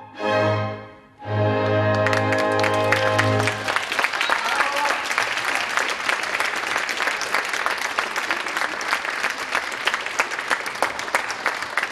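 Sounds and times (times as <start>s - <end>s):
audience applauding: 1.9s - 11.9s.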